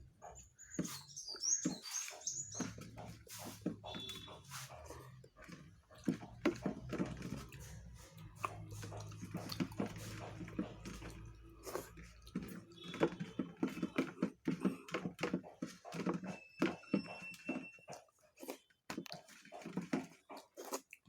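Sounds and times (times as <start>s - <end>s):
person chewing with mouth open: 1.7s - 16.0s, 17.8s - 21.0s.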